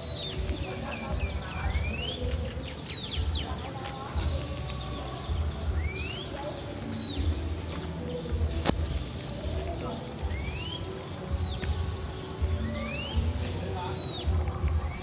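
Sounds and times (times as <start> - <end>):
birds chirping and calling: 0.0 - 15.0
whistled bird notes: 0.0 - 15.0.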